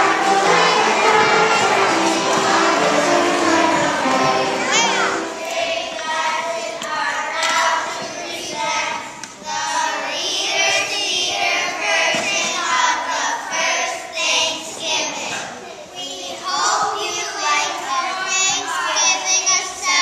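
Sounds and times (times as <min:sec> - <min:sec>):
children singing together: 0:00.0 - 0:20.0.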